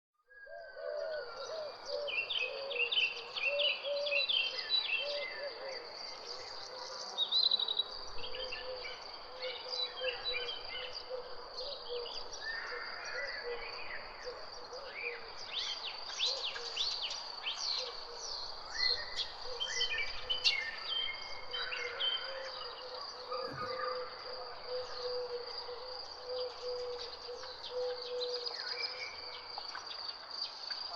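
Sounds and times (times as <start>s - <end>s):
birds chirping and singing: 0.3s - 30.9s.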